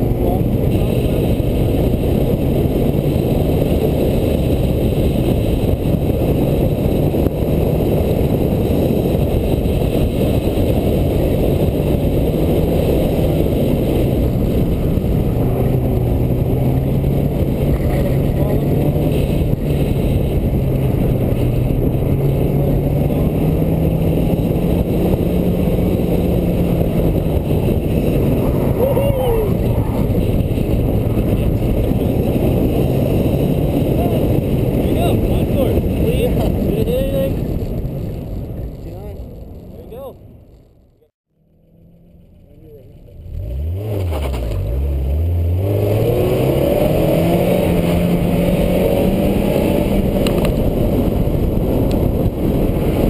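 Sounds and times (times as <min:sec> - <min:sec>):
car engine pulling hard: 0:00.0 - 0:40.6, 0:41.4 - 0:53.0
wind and road rush: 0:00.0 - 0:53.0.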